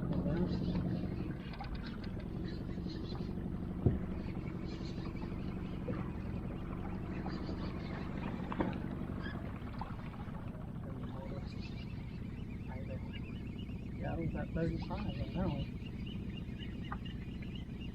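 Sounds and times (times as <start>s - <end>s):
boat motor humming: 0.0s - 17.9s.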